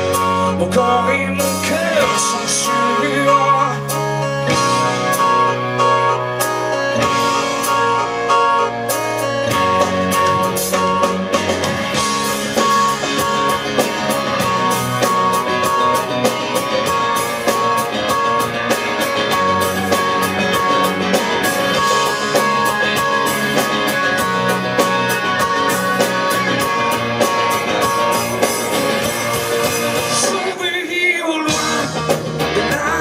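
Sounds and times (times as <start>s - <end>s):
drum kit beat: 0.0s - 33.0s
electric guitar: 0.0s - 33.0s
keyboards: 0.0s - 33.0s.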